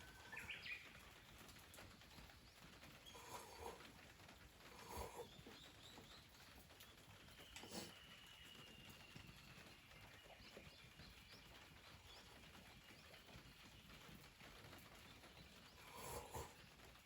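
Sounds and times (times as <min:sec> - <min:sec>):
faint outdoor ambience: 0:00.0 - 0:17.0
small bird chirping: 0:00.0 - 0:17.0.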